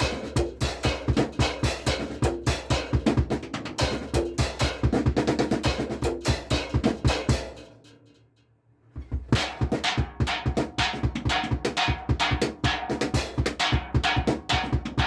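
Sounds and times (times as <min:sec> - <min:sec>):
drum kit playing fast: 0:00.0 - 0:07.6, 0:09.0 - 0:15.0.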